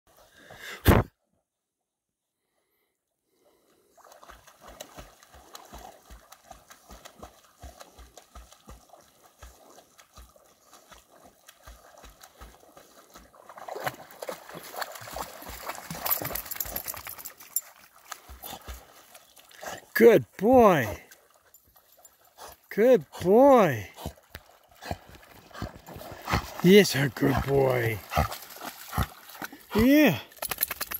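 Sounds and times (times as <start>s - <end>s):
dogs splashing in water: 4.0s - 23.2s, 23.9s - 30.8s.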